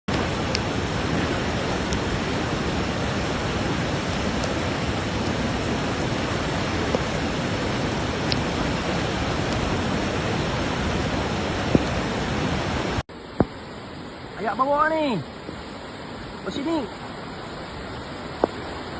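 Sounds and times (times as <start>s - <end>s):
floodwater rushing: 0.1s - 18.9s.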